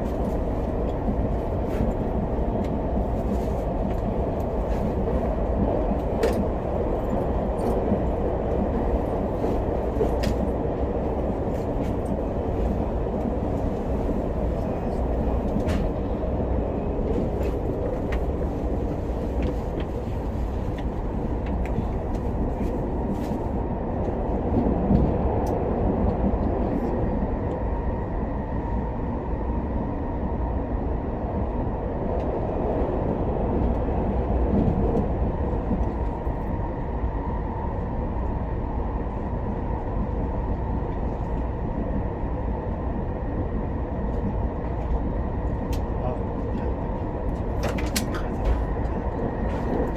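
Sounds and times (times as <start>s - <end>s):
train cabin rumble and hiss: 0.0s - 49.9s.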